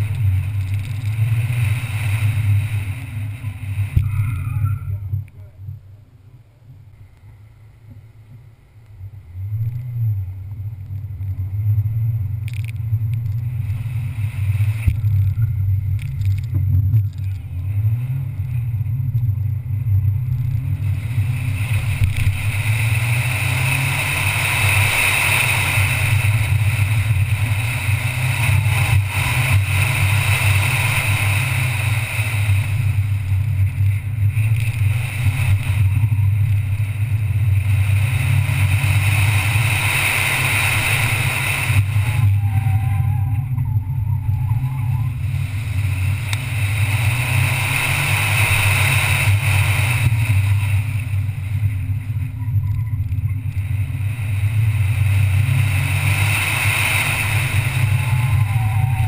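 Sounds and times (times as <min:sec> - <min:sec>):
car engine driven hard: 0:00.0 - 0:59.0.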